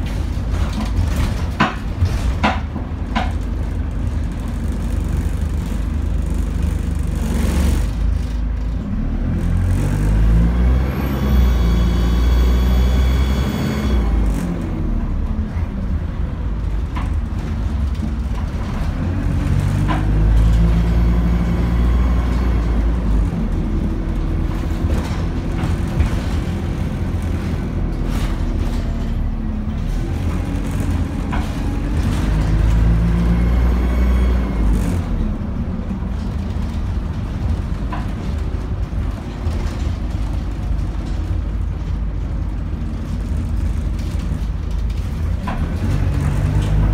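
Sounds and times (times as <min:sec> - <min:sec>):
bus diesel engine: 0:00.0 - 0:46.9
rattles and knocks inside bus: 0:00.0 - 0:46.9.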